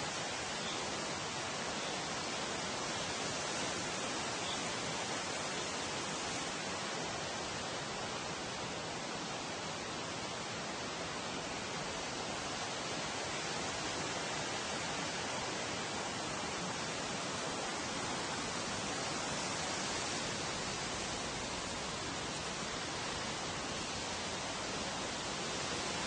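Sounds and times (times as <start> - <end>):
wind through tree leaves: 0.0 - 26.0.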